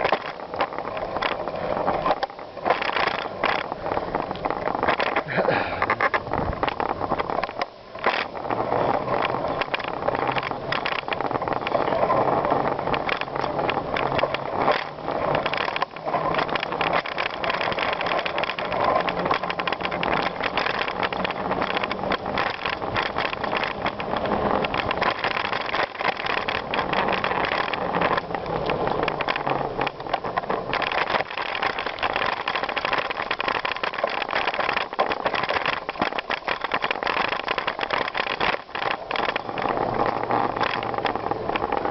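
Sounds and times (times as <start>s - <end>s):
bicycle rattling and clicking: 0.0s - 41.9s
bicycle tyres on gravel: 0.0s - 41.9s.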